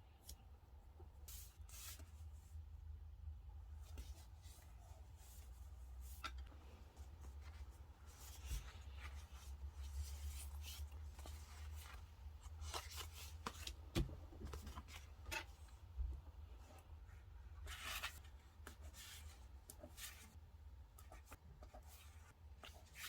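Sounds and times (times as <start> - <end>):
paper and stationery handled: 1.2 - 2.2, 3.8 - 15.9, 16.6 - 20.4, 21.0 - 23.0.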